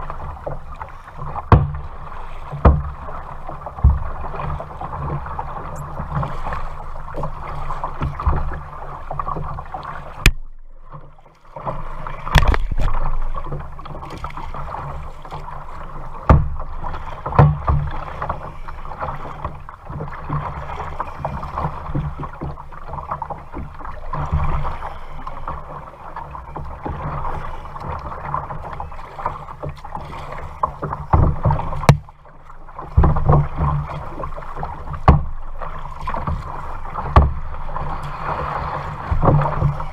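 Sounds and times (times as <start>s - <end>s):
paddle strokes: 0.0s - 39.9s
water splashing against hull: 0.0s - 39.9s.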